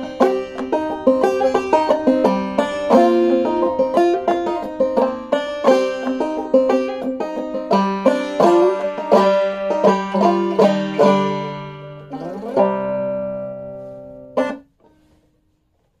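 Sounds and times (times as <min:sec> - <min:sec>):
banjo playing: 0:00.0 - 0:15.2
muted banjo strum: 0:00.0 - 0:15.2.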